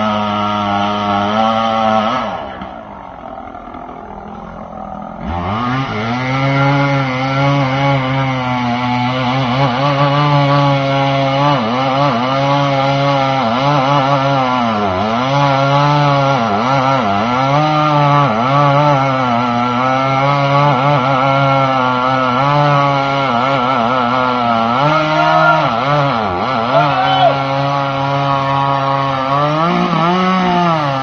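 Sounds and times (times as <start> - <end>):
chainsaw cutting at full throttle: 0.0 - 31.0.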